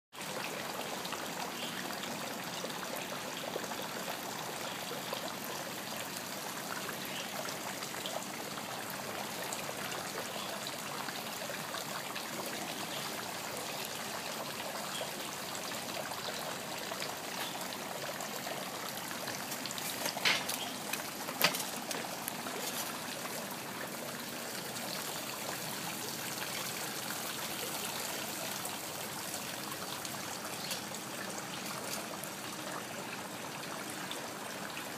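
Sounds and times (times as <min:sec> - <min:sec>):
water trickling in pond: 0:00.1 - 0:34.9.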